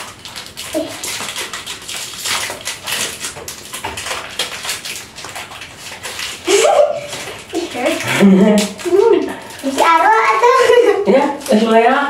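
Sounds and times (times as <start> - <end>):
plastic wrappers crinkling and tearing: 0.0 - 12.0.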